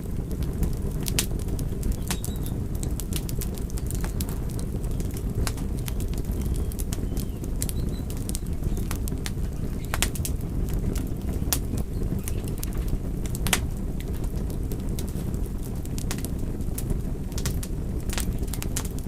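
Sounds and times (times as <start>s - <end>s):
low rumble of burning: 0.0s - 19.0s
wood fire crackling: 0.0s - 19.0s.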